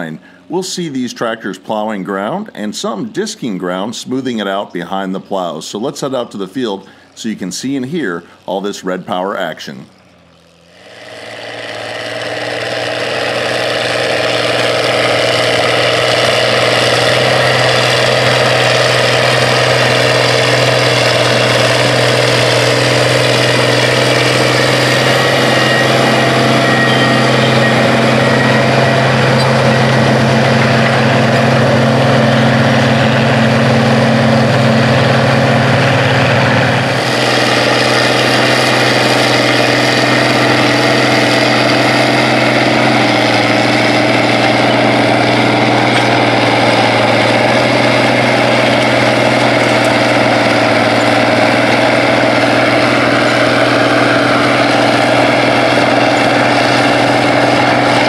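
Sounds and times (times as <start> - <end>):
tractor engines under load: 0.0 - 58.0.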